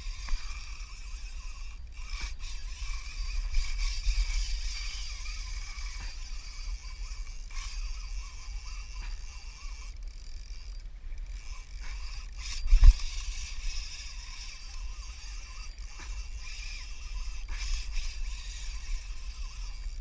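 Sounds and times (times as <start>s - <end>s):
water around a hull: 0.0s - 20.0s.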